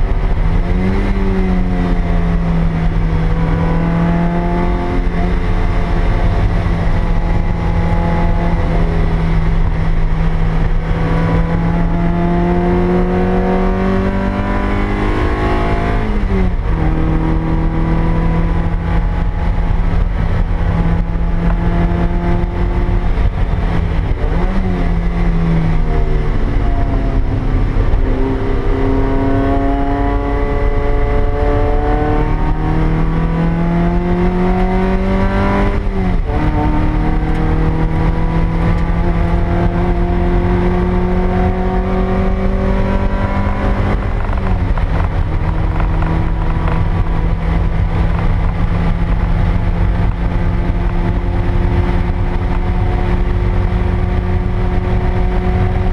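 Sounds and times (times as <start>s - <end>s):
car engine revving under hard driving: 0.0s - 55.9s.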